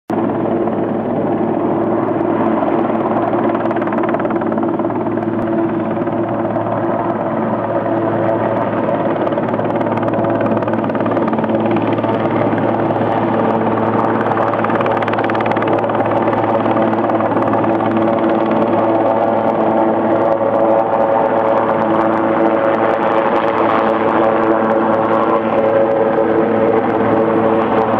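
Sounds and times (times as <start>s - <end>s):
helicopter rotor drone: 0.1s - 27.9s.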